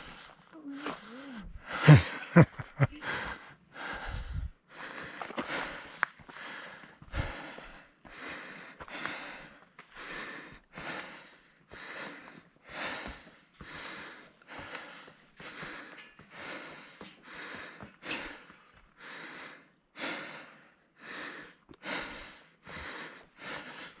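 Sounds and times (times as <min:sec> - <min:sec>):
heavy rhythmic breathing: 0:00.0 - 0:24.0.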